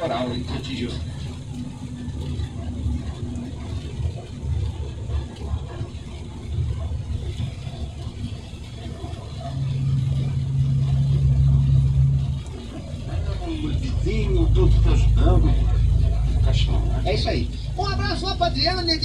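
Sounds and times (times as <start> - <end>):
road rumble: 0.0 - 19.0
truck engine drone: 0.0 - 19.0.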